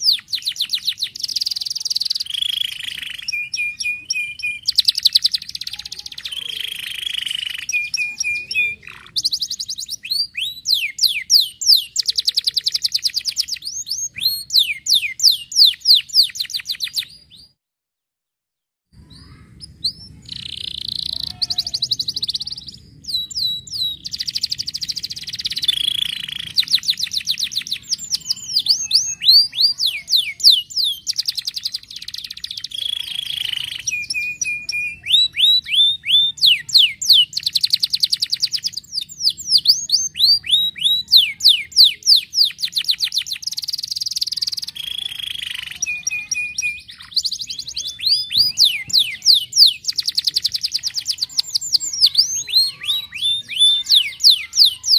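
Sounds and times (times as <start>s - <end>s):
canary singing: 0.0s - 17.6s, 19.0s - 54.9s.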